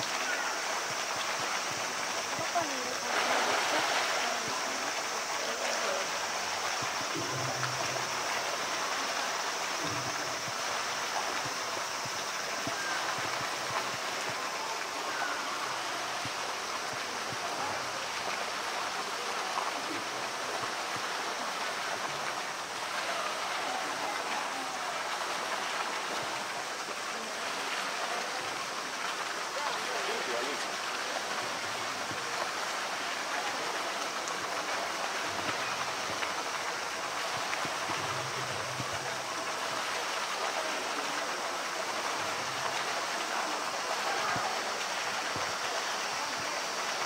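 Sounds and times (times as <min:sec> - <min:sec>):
running water rushing: 0:00.0 - 0:47.0.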